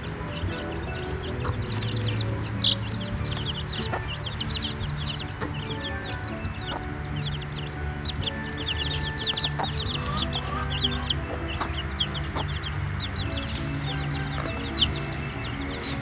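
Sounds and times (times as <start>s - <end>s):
baby chicks peeping: 0.0s - 16.0s
soft background music: 0.0s - 16.0s.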